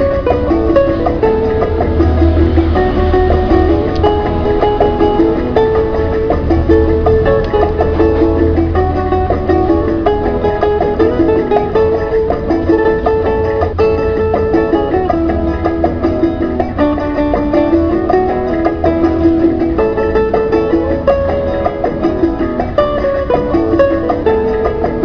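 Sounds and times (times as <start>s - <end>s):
plucked string melody: 0.0s - 25.0s
steady bass line: 0.0s - 25.0s.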